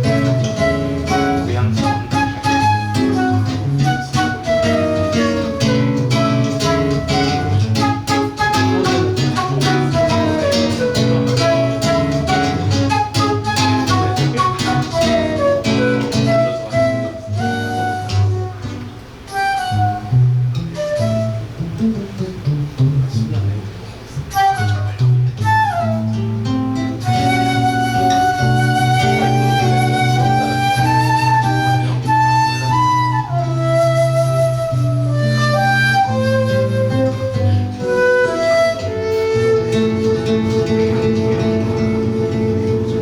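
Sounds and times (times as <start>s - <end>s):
flute melody: 0.0s - 22.2s, 24.2s - 43.0s
acoustic guitar plucking: 0.0s - 43.0s.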